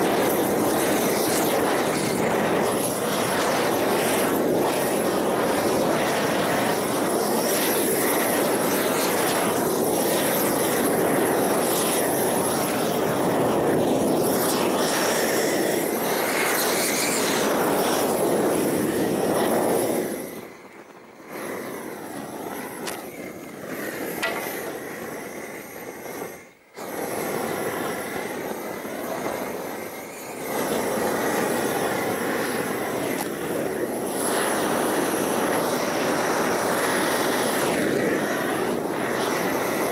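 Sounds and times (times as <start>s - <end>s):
propane torch rushing: 0.0s - 39.9s.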